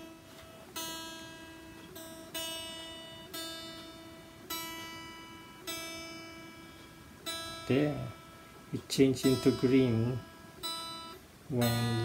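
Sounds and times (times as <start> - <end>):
electric guitar string plucked: 0.0 - 12.0.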